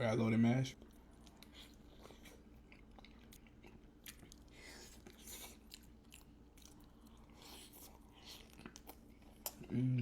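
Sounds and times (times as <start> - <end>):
soft chewing mouth sounds: 0.7 - 10.0.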